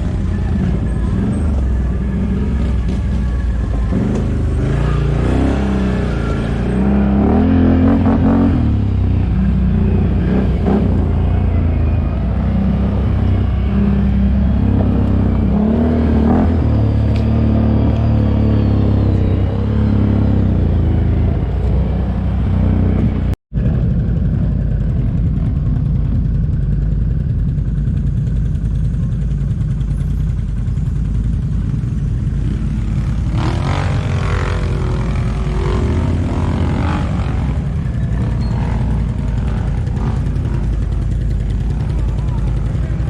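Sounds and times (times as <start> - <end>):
atv engines rumbling: 0.0 - 43.0.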